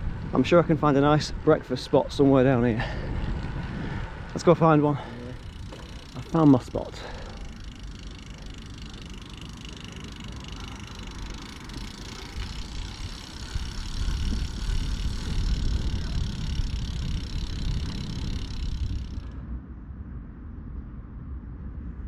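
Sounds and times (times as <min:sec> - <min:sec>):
bicycle tyre and road noise: 0:00.0 - 0:22.0
wind rumbling on microphone: 0:00.0 - 0:22.0.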